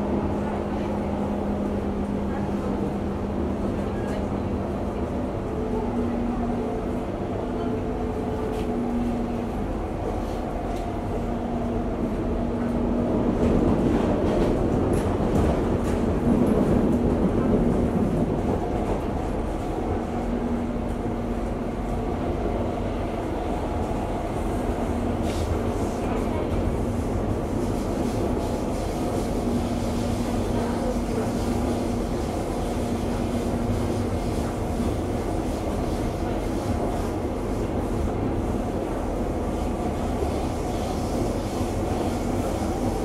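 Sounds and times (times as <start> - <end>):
train carriage rumble: 0.0 - 43.0
train hum: 0.0 - 43.0.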